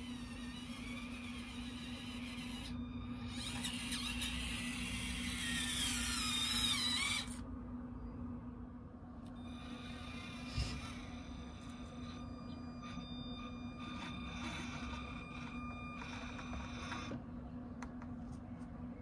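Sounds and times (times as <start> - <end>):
toy car electric motor whining: 0.0 - 7.4, 9.3 - 17.2.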